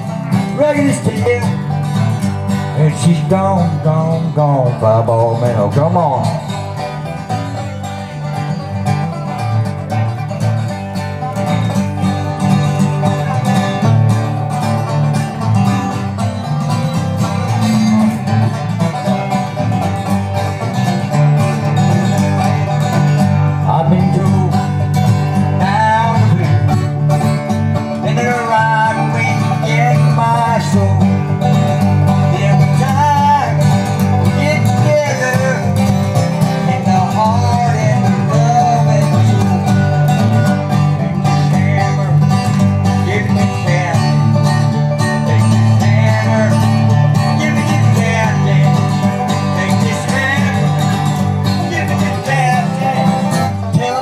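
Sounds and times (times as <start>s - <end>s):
acoustic guitar: 0.0s - 54.0s
banjo: 0.0s - 54.0s.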